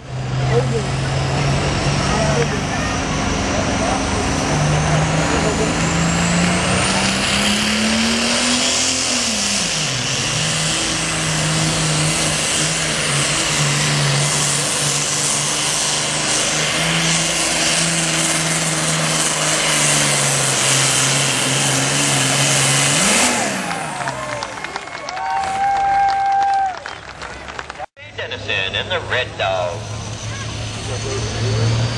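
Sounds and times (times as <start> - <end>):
tractor diesel engine under load: 0.0 - 31.9.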